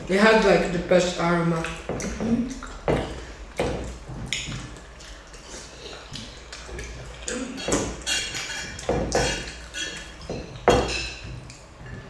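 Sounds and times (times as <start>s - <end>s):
chewing and wet mouth noises: 0.3s - 12.0s.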